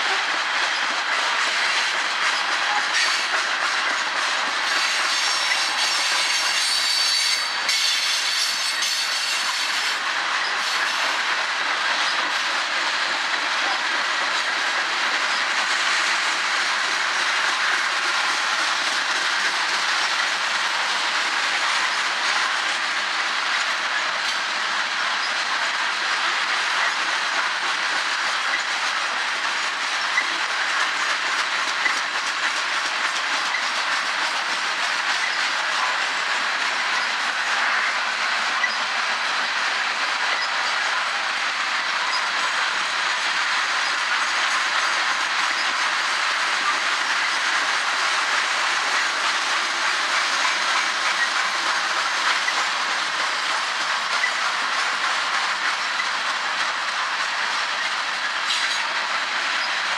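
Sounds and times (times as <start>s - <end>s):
train wheels running on rails: 0.0s - 59.9s.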